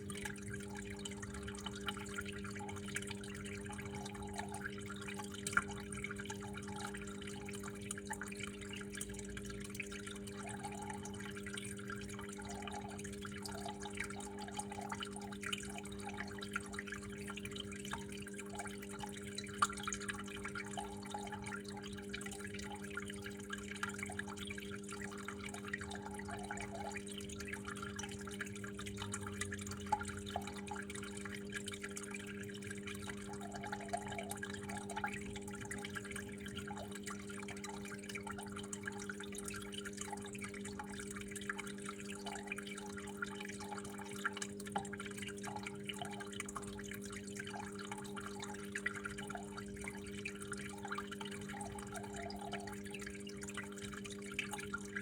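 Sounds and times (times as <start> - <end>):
water drips and splashes: 0.0 - 55.0
water flowing: 0.0 - 55.0.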